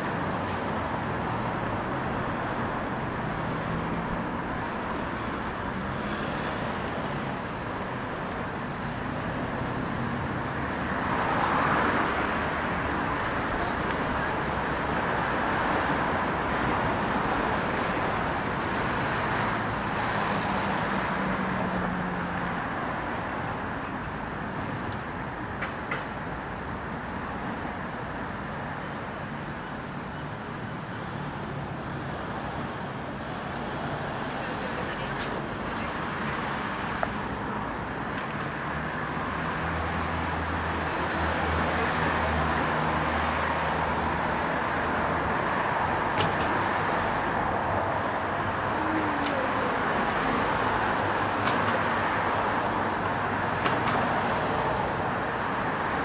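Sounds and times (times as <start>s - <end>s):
street traffic noise: 0.0s - 56.0s.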